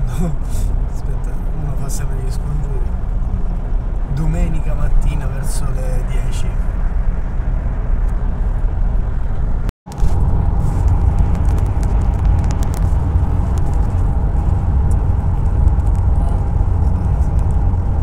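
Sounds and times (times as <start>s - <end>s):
vehicle rumble from inside cabin: 0.0s - 18.0s.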